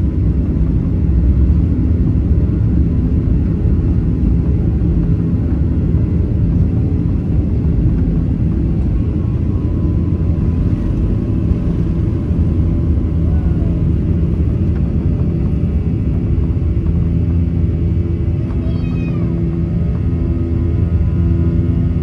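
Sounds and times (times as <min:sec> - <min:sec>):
low rumble of jet engines and wheels: 0:00.0 - 0:22.0
faint steady whine: 0:02.8 - 0:22.0.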